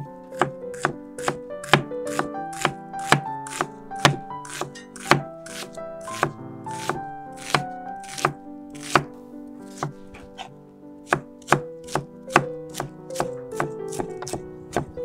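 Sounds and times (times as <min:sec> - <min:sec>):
background music with held notes: 0:00.0 - 0:15.0
knife chopping on wooden board: 0:00.4 - 0:09.1, 0:09.7 - 0:10.5, 0:11.1 - 0:15.0.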